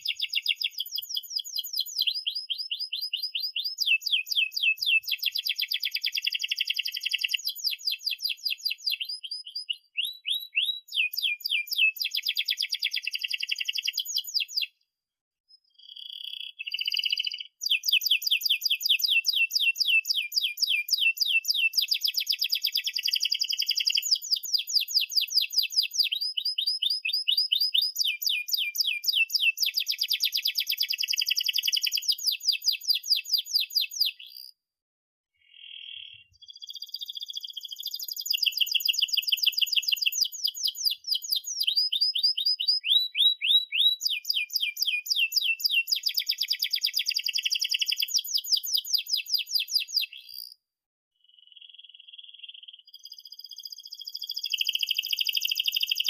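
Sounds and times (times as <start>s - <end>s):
canary singing trills: 0.0s - 14.8s, 15.5s - 34.6s, 35.4s - 50.6s, 51.3s - 56.0s.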